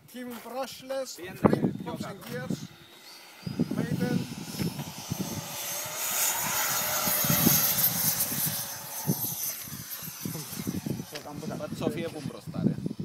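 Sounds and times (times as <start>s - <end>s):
model jet fan whine: 1.0s - 13.0s
wind buffeting microphone: 1.2s - 13.0s.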